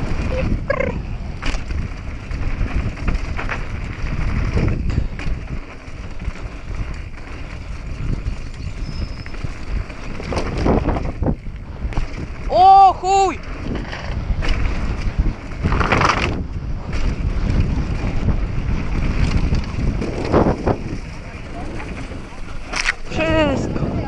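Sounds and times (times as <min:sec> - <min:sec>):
bike rattling over bumps: 0:00.0 - 0:24.0
bike tyres on dirt trail: 0:00.0 - 0:24.0
wind buffeting microphone: 0:00.0 - 0:24.0.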